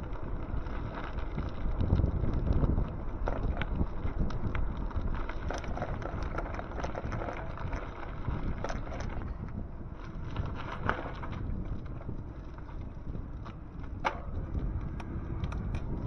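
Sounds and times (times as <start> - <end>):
road rumble: 0.0 - 16.0
small clicks and rattles: 0.0 - 16.0
wind buffeting microphone: 0.0 - 16.0.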